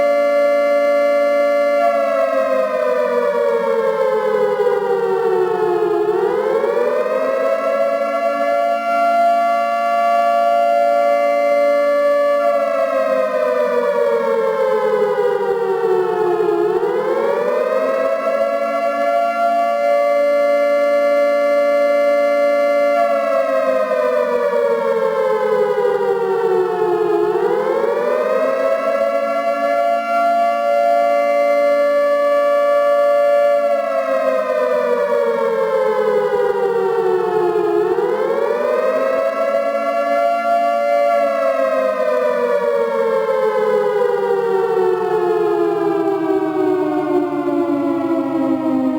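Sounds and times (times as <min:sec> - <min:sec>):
civil defense siren: 0:00.0 - 0:48.9.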